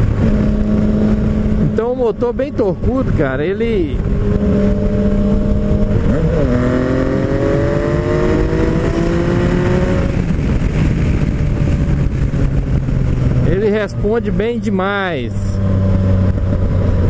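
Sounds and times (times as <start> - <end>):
motorcycle engine accelerating: 0.0 - 17.0
wind noise: 0.0 - 17.0.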